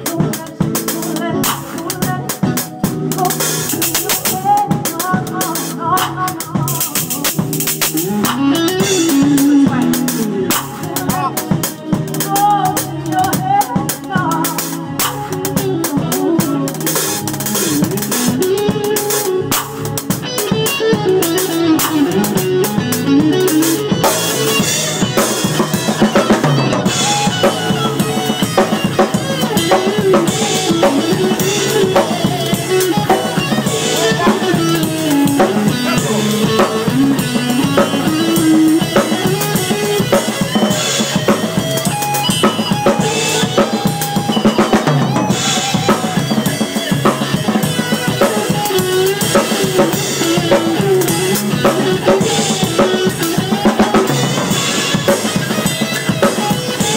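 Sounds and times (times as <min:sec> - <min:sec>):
drum kit: 0:00.0 - 0:56.9
live band playing: 0:00.0 - 0:56.9.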